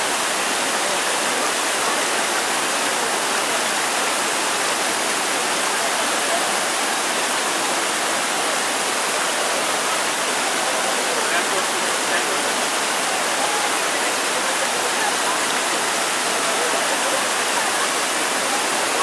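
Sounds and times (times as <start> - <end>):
river rushing over boulders: 0.0 - 19.0.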